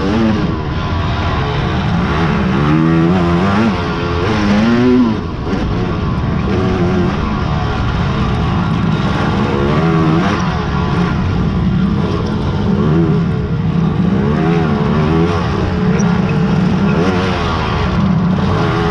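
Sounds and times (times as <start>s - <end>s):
quad engines revving: 0.0s - 18.9s.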